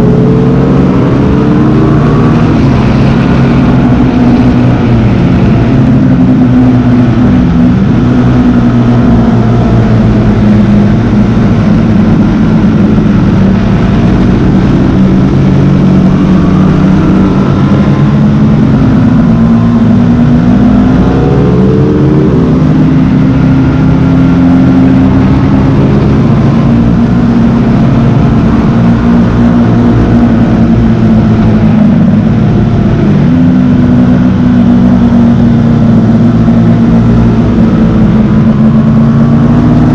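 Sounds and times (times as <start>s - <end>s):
motorcycle engine shifting gears: 0.0s - 39.9s
wind noise: 0.0s - 39.9s.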